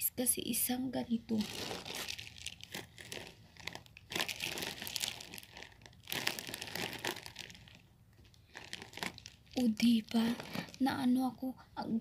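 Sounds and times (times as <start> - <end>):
plastic bag crinkling: 1.3 - 11.2.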